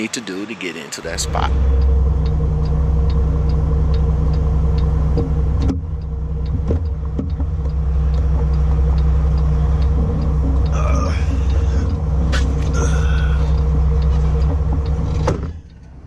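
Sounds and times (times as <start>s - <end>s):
diesel truck engine idling: 0.0s - 16.0s
faint even ticking: 1.2s - 16.0s.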